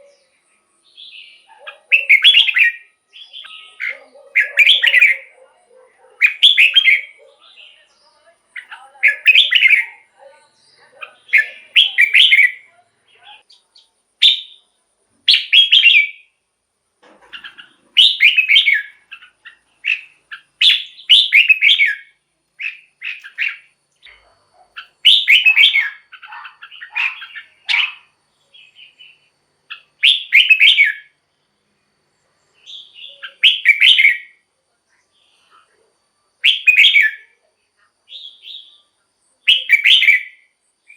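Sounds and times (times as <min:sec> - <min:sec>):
bulbul singing warbling phrases: 0:00.0 - 0:16.4, 0:17.4 - 0:31.2, 0:32.5 - 0:35.8, 0:36.4 - 0:40.9.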